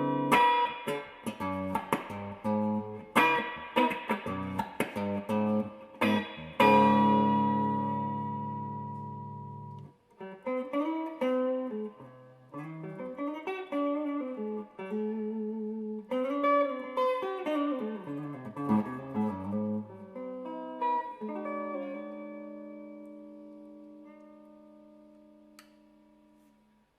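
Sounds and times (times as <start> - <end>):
electric guitar playing: 0.0 - 26.4.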